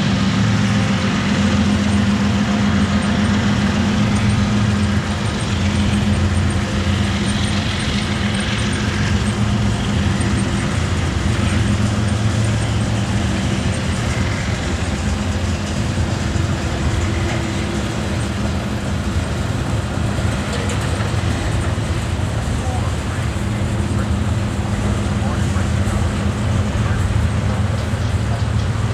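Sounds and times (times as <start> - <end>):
low hum: 0.0 - 28.9
train wheels on rails: 0.0 - 28.9.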